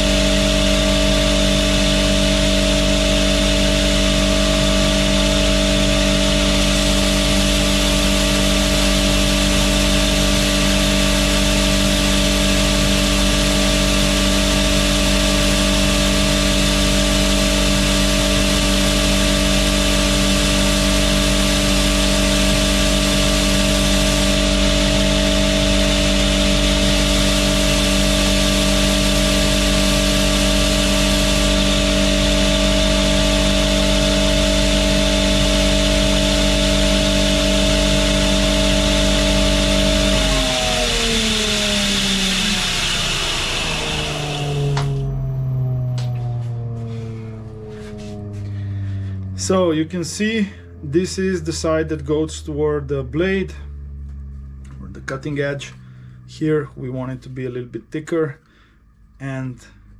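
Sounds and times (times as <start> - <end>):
belt grinder motor hum: 0.0 - 48.5.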